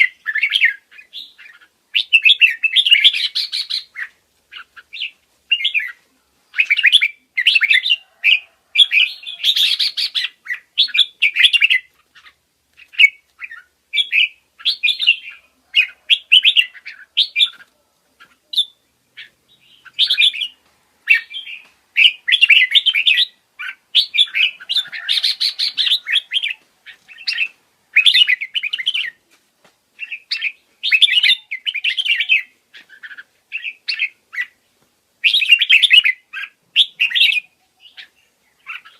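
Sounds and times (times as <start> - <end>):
parrotlets chirping: 0.0 - 29.2, 30.0 - 34.6, 35.2 - 38.9.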